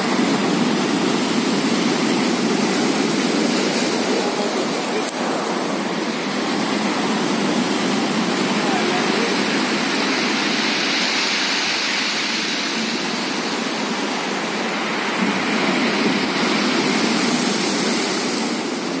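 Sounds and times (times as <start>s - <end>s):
surf washing between rocks: 0.0s - 19.0s.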